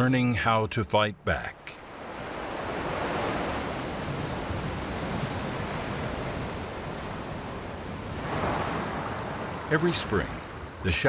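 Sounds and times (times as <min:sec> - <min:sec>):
sea waves washing: 0:01.6 - 0:11.0.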